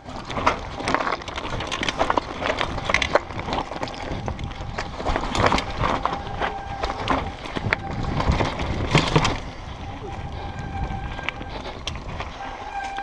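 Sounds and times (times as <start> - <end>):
bike rattling and knocking: 0.0 - 13.0
tyres crunching over dirt and stones: 0.0 - 13.0.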